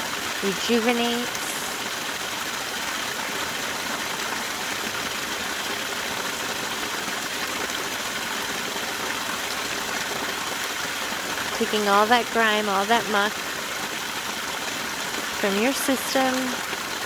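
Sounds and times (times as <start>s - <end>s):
small waterfall splashing: 0.0s - 17.0s.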